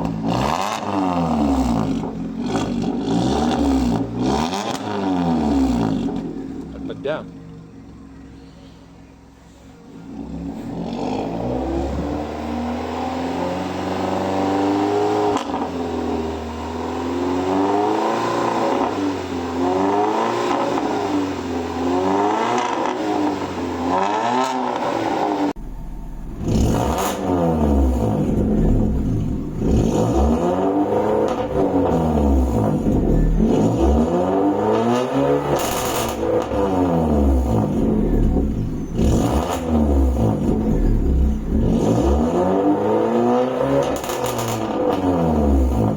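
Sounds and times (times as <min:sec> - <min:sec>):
car engine revving: 0:00.0 - 0:07.6, 0:09.4 - 0:45.9.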